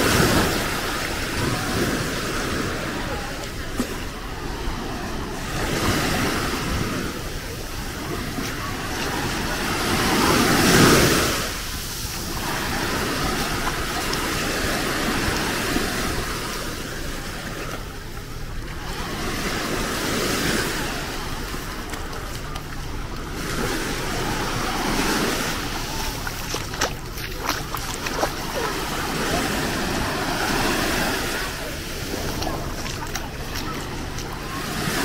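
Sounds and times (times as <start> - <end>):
small waves breaking on sand: 0.0 - 35.0.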